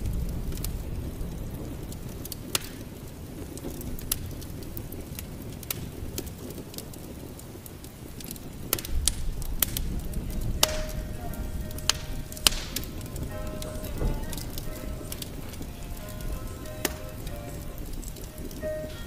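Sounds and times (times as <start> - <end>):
log fire crackling: 0.0 - 19.0
rain rumble: 0.0 - 19.0.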